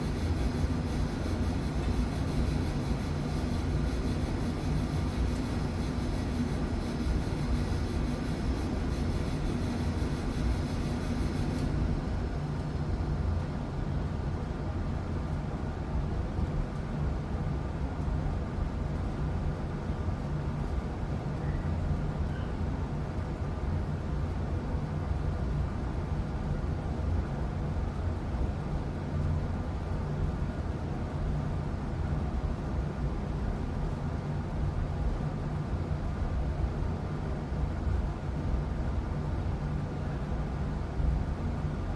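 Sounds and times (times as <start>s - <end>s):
furnace low hum: 0.0s - 41.9s.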